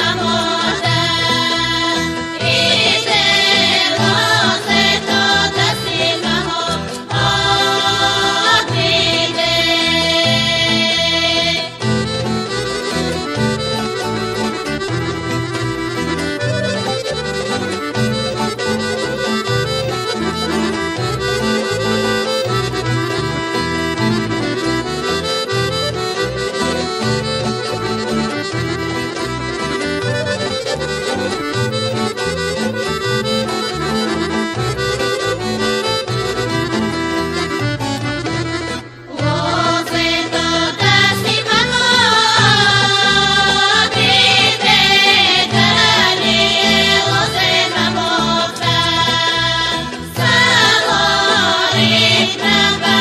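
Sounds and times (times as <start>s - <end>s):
accordion folk dance music: 0.0s - 53.0s.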